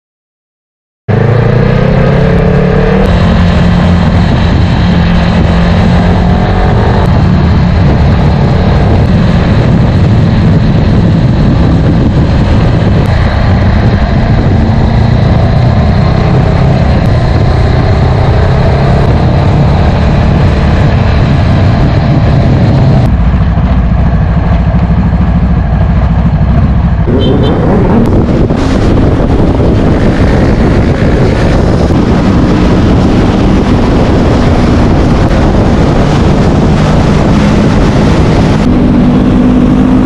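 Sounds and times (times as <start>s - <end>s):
motorcycle engine running: 1.1s - 40.0s
wind noise on microphone: 1.1s - 40.0s.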